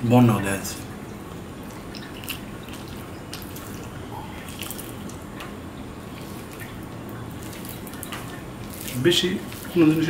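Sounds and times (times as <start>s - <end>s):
steady background hiss: 0.0s - 10.0s
fingers squishing food: 1.6s - 10.0s.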